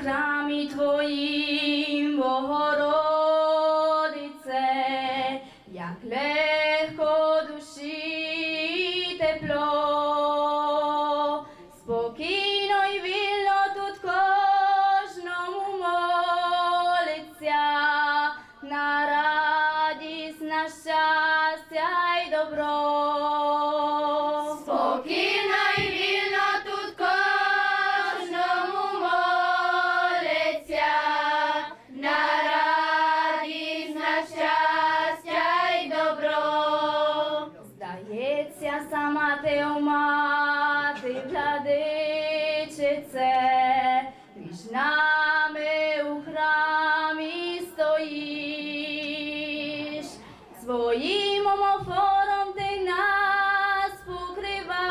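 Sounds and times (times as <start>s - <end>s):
girls' choir singing a hymn: 0.0s - 5.4s, 6.1s - 37.6s, 38.2s - 54.9s.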